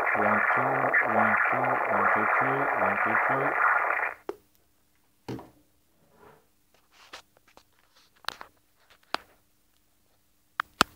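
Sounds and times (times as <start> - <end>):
faint steady hum: 0.0 - 10.7.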